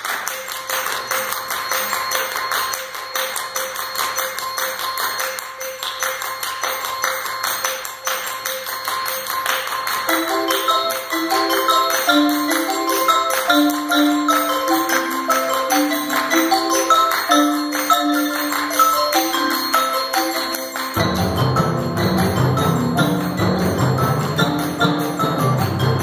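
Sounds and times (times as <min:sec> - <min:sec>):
percussion ensemble playing: 0:00.0 - 0:26.0
mallet keyboard melody: 0:00.2 - 0:26.0.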